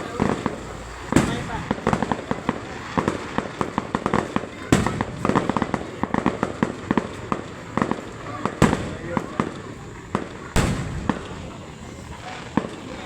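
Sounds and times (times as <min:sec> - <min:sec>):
fireworks crackling pops: 0:00.0 - 0:13.0
loud firework bang: 0:00.0 - 0:13.0.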